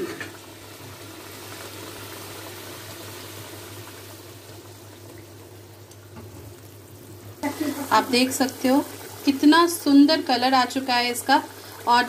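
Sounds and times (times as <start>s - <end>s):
curry boiling and bubbling: 0.0s - 12.0s.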